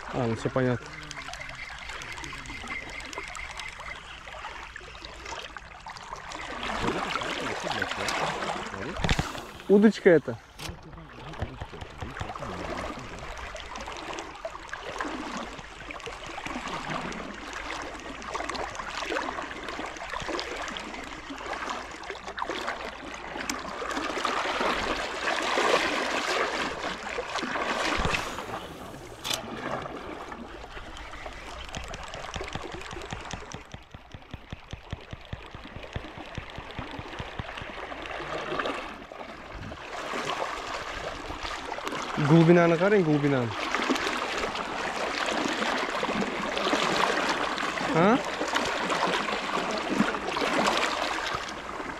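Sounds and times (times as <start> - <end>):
water flowing and trickling: 0.0 - 51.9.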